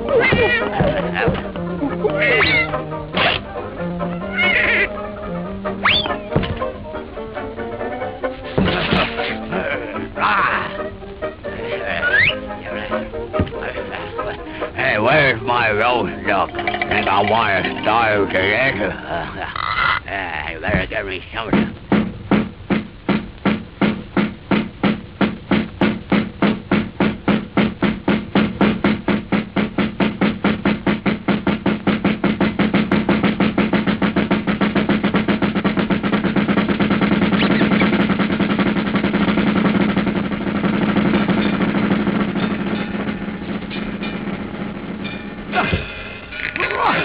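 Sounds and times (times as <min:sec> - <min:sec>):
cartoon music with pulsing drums: 0:00.0 - 0:19.6, 0:21.5 - 0:47.0.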